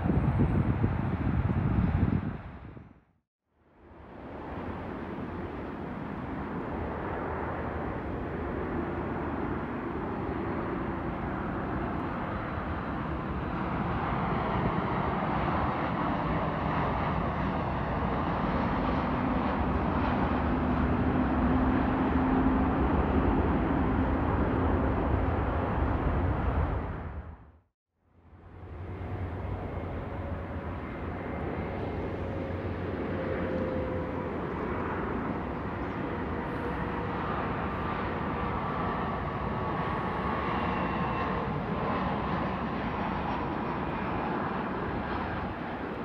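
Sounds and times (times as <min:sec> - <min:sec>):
jet airliner engine rush: 0:00.0 - 0:03.0, 0:03.8 - 0:27.6, 0:28.2 - 0:46.0.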